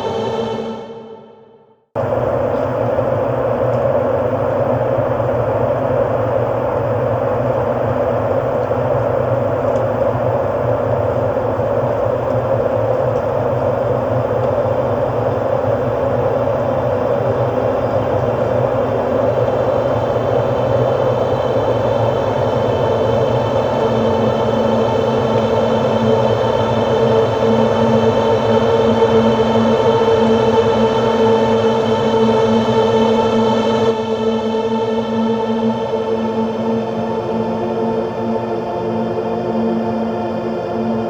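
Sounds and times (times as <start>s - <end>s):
ambient electronic drone: 0.0s - 41.0s.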